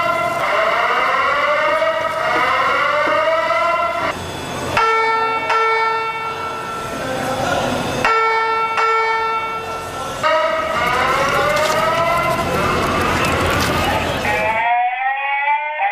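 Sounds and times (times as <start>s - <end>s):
fire alarm rising whoop tone: 0.0s - 7.0s, 8.0s - 12.8s, 14.3s - 15.9s.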